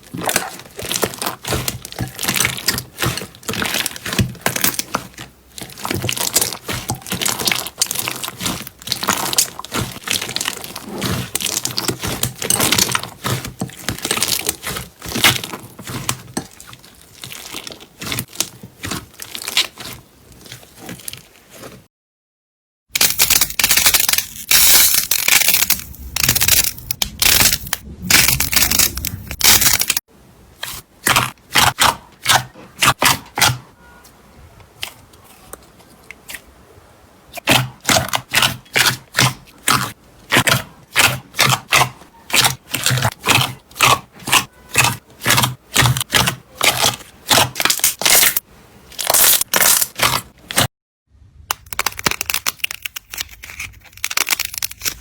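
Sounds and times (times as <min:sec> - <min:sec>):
slime crackling and popping: 0:00.0 - 0:21.7, 0:23.0 - 0:33.6, 0:37.3 - 0:50.7, 0:51.5 - 0:55.0.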